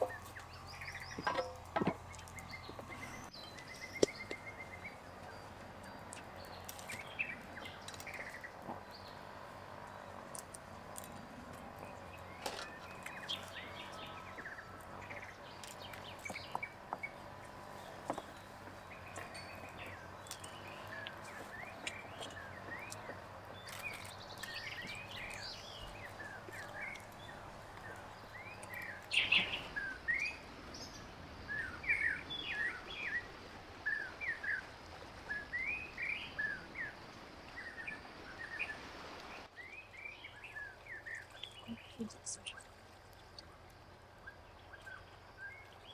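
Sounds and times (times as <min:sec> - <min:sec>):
outdoor background noise: 0:00.0 - 0:45.9
small birds chirping: 0:00.0 - 0:45.9.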